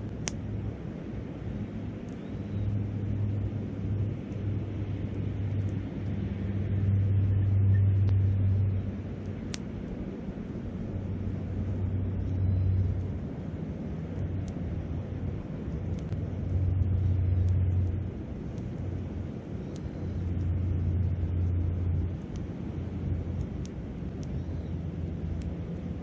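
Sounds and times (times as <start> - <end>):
campfire popping: 0.0 - 26.0.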